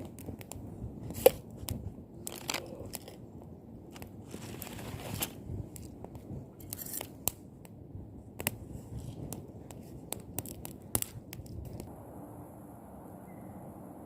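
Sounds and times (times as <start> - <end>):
campfire crackling: 0.0 - 11.9.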